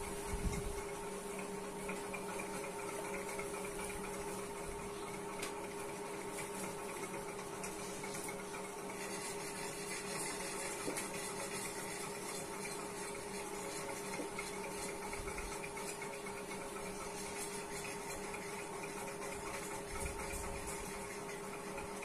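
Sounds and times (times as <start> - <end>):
low hum with hiss: 0.0 - 22.0.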